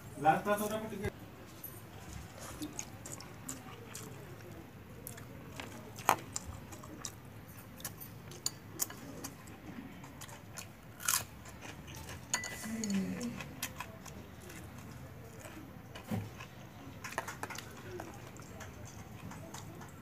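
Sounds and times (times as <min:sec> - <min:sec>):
chewing clicks and smacks: 0:02.5 - 0:12.4, 0:13.3 - 0:20.0.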